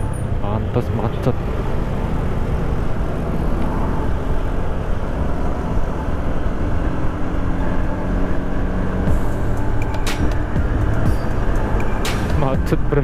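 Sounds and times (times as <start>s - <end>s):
motorcycle engine running: 1.4s - 13.0s.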